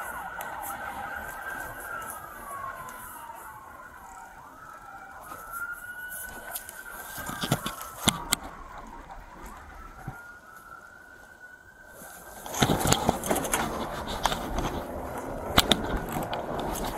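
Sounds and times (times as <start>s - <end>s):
siren wailing: 0.0s - 16.9s.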